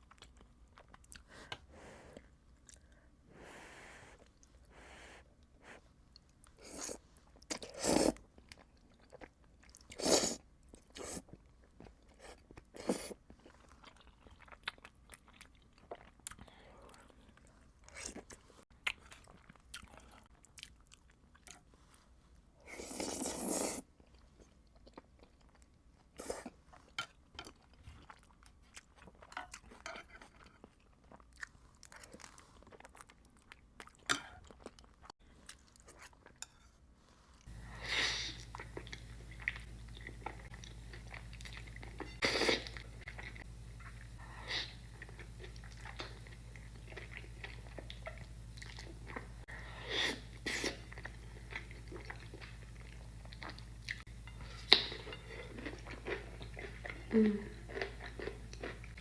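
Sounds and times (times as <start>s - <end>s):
person chewing noodles: 0.0s - 3.1s, 6.1s - 36.4s, 37.3s - 59.0s.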